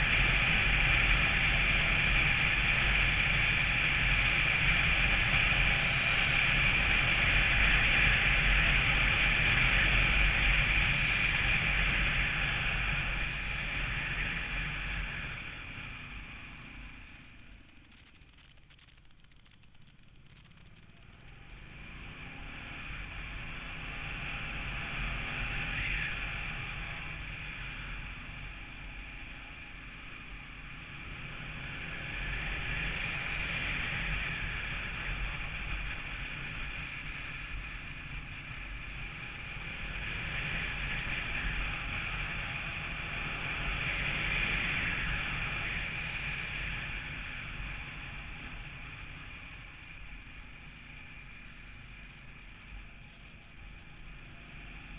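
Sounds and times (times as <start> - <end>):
vehicle road noise: 0.0 - 54.9.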